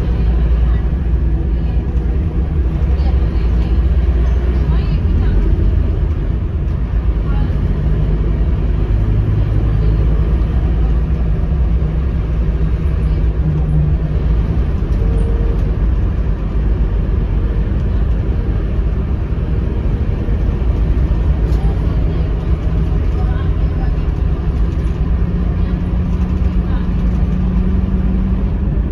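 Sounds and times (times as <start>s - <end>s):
bus diesel engine rumble: 0.0s - 28.9s
road noise: 0.0s - 28.9s.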